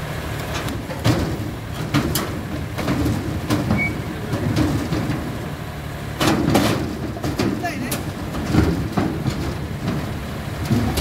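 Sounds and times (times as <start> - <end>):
diesel engine running: 0.0 - 11.0
steel tracks clanking on metal deck: 0.5 - 11.0.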